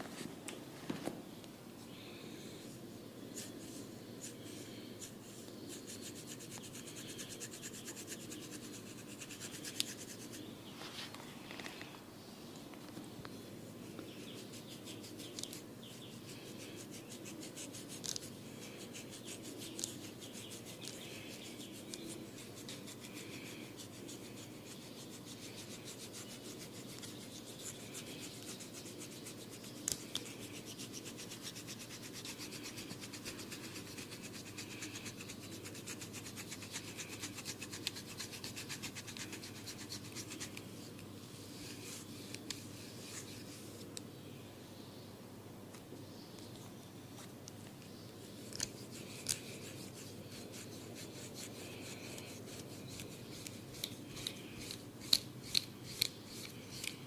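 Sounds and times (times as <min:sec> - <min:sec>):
hair and scalp scratching: 0:03.3 - 0:11.2, 0:14.1 - 0:43.9, 0:48.2 - 0:57.0.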